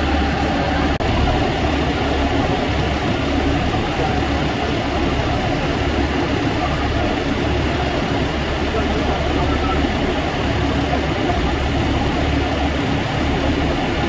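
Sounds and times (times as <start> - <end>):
diesel engine running steadily: 0.0 - 14.0.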